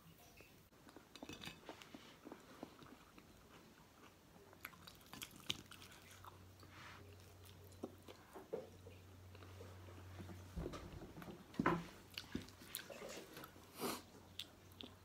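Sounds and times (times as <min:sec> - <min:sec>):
chewing: 0:00.8 - 0:10.2, 0:12.1 - 0:15.0.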